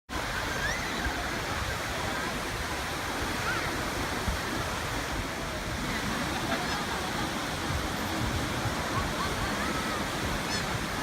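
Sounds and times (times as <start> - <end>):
surf washing: 0.1 - 11.0
wind: 0.1 - 11.0.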